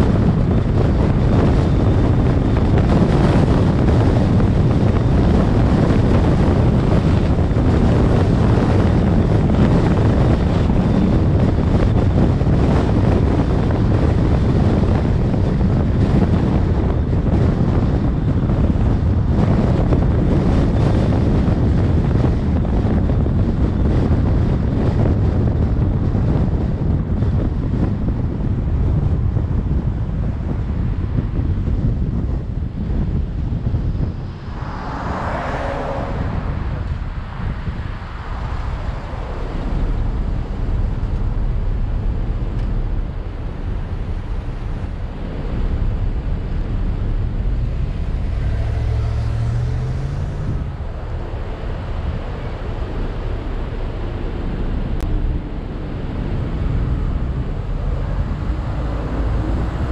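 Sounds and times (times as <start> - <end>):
road noise: 0.0 - 59.9
wind noise on microphone: 0.0 - 59.9.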